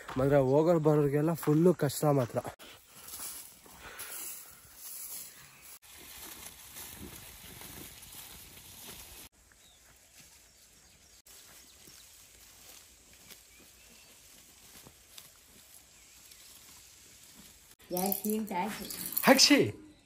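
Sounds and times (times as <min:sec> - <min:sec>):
faint rural ambience: 0:00.0 - 0:20.0.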